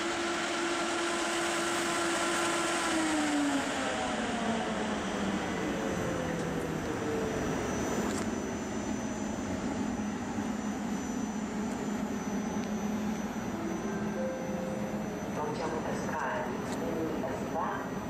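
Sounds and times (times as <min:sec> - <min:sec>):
locomotive cooling fans humming: 0:00.0 - 0:18.0.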